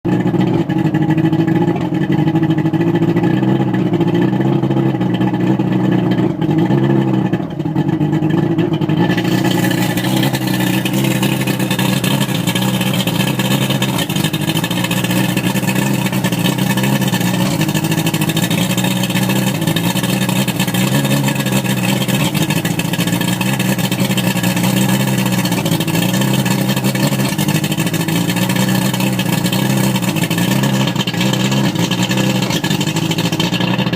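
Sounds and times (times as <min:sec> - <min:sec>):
outboard motor running unevenly: 0:00.1 - 0:33.9.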